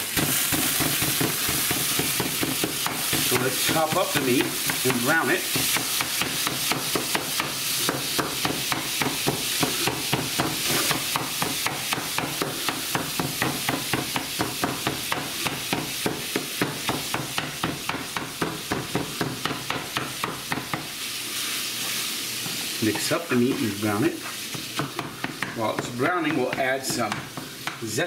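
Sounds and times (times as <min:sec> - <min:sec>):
meat chopper striking frying pan: 0:00.0 - 0:21.0, 0:24.3 - 0:28.0
meat sizzling: 0:00.0 - 0:28.0.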